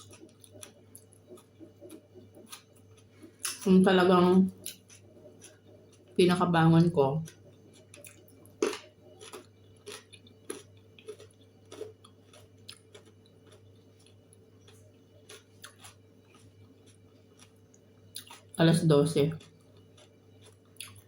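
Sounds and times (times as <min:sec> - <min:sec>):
eating clicks and smacks: 0:00.0 - 0:03.7, 0:04.6 - 0:06.2, 0:07.2 - 0:18.6, 0:19.3 - 0:21.0
steady low hum: 0:00.0 - 0:21.0.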